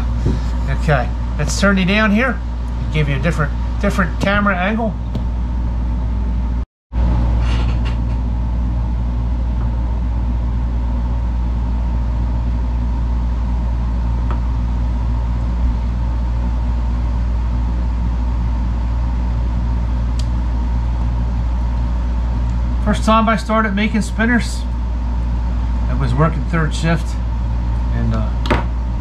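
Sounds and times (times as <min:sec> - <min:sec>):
machine hum with high whine: 0:00.0 - 0:29.0.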